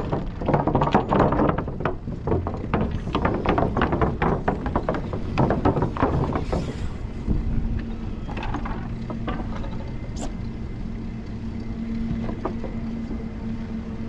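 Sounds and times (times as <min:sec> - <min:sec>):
low hum: 0:00.0 - 0:14.0
wind and road rumble: 0:00.0 - 0:14.0.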